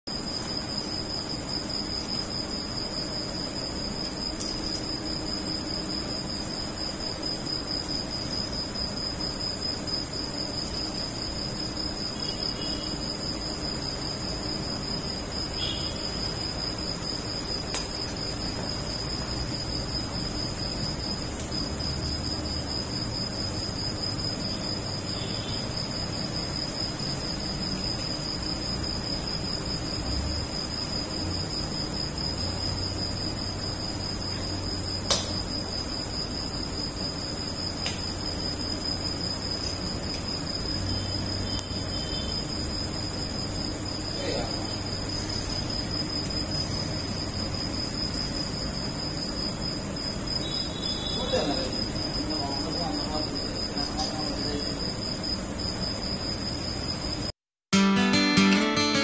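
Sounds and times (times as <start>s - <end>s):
insects trilling: 0.1s - 57.3s.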